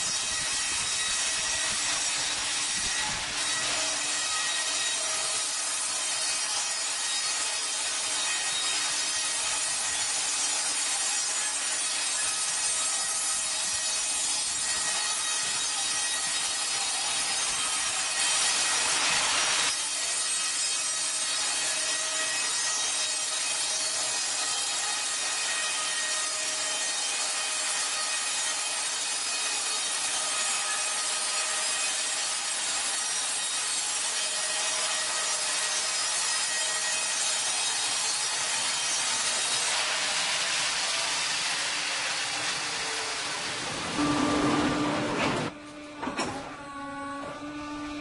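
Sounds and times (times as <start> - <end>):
band saw cutting wood: 0.0 - 48.0.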